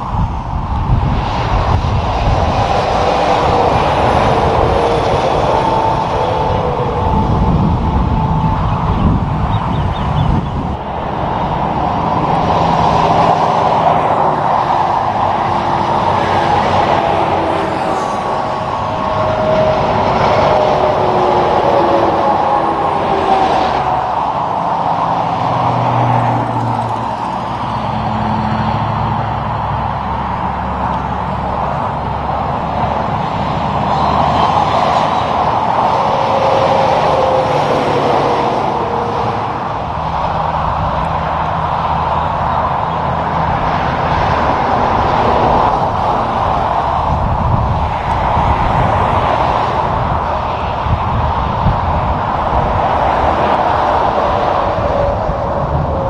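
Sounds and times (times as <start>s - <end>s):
low diesel engine drone: 0.0s - 56.0s
truck driving past: 0.0s - 56.0s
tyres roaring on road: 0.0s - 56.0s.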